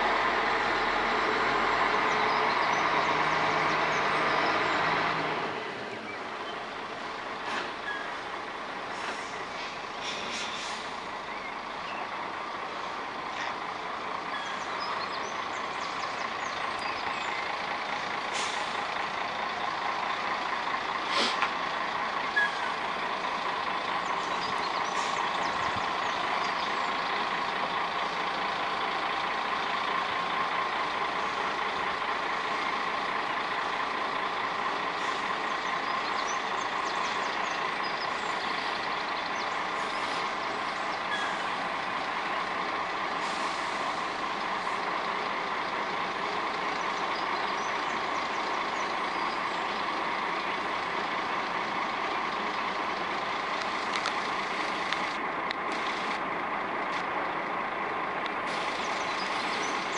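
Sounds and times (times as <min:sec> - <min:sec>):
excavator engine running: 0:10.8 - 0:59.9.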